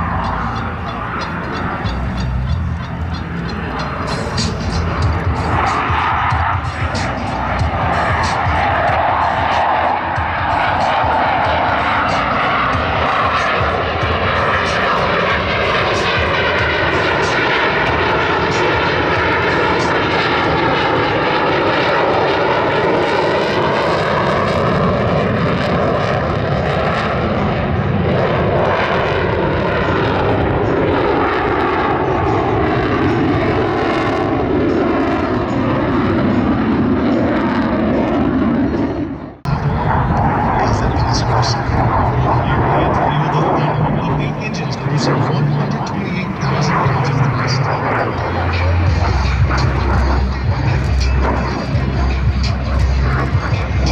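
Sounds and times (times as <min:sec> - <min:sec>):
jet engines roaring in low pass: 0:00.0 - 0:53.9.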